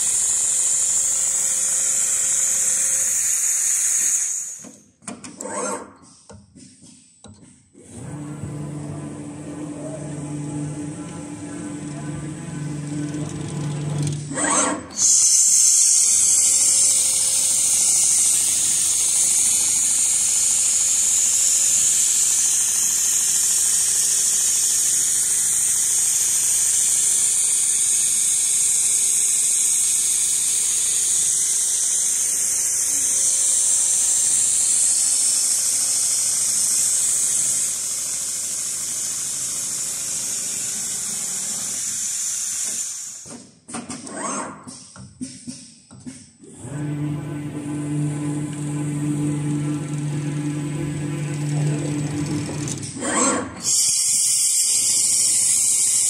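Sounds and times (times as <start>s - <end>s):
sewing machine whirring: 7.8s - 43.2s, 46.5s - 56.0s.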